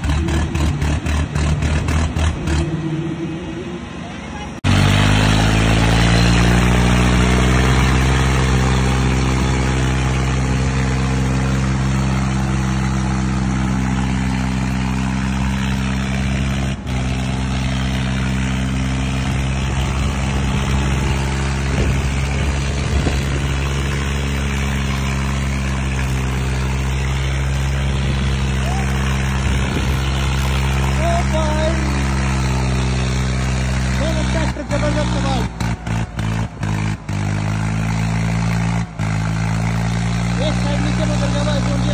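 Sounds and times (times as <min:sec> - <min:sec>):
diesel tractor engines under load: 0:00.0 - 0:41.9.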